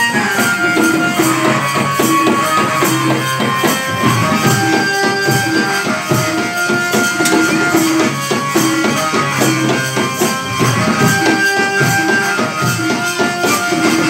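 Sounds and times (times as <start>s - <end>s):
busy percussion beat: 0.0s - 14.0s.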